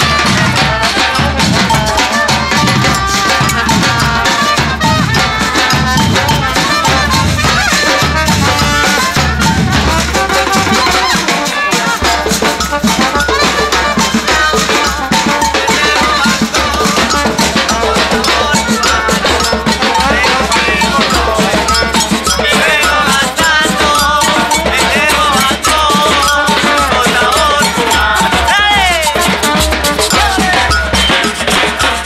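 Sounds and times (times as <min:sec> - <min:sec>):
samba drum group playing: 0:00.0 - 0:32.0.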